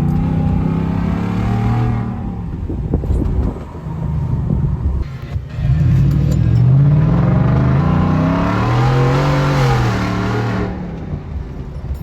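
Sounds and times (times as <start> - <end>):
car engine accelerating: 0.0 - 11.6.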